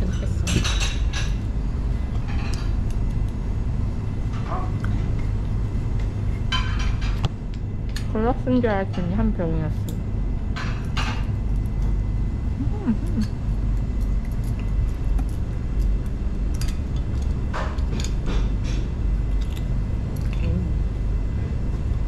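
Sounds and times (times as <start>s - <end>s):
restaurant room noise: 0.0s - 22.0s.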